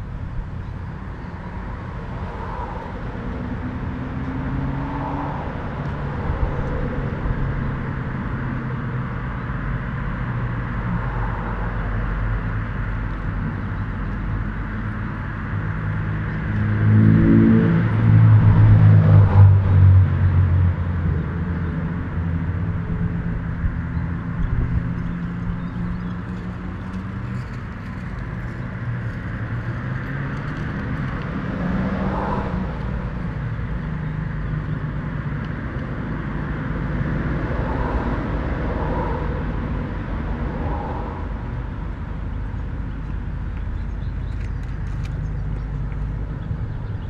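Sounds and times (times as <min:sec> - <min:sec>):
motor vehicle rumble: 0:00.0 - 0:47.0.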